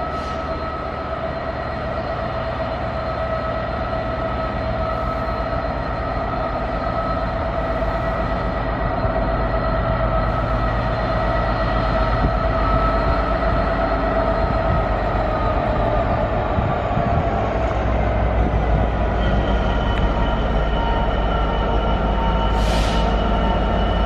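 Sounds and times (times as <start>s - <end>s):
locomotive engine whine and rumble: 0.0s - 24.0s.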